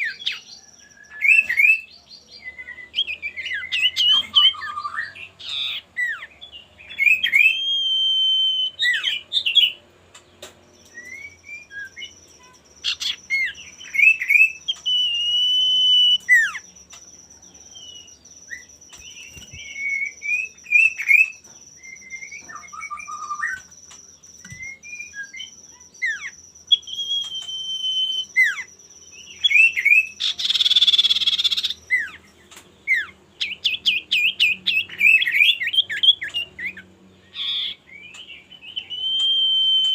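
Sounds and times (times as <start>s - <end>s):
bird singing whistles and chirps: 0.0s - 9.8s, 10.6s - 39.9s.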